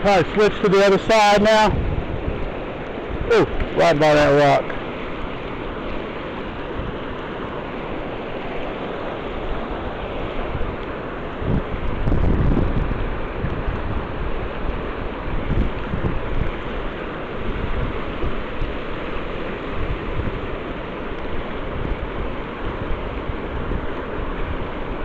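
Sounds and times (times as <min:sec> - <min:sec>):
river water rushing: 0:00.0 - 0:25.0
wind buffeting microphone: 0:01.2 - 0:07.2, 0:09.4 - 0:25.0.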